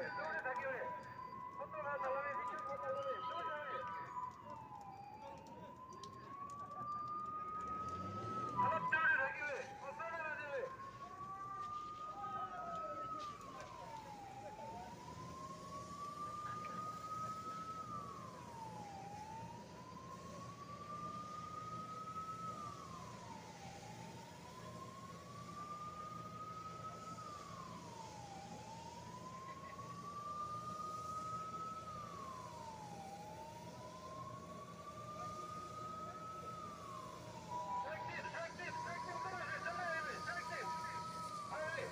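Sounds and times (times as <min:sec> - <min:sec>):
emergency siren wailing: 0:00.0 - 0:41.9.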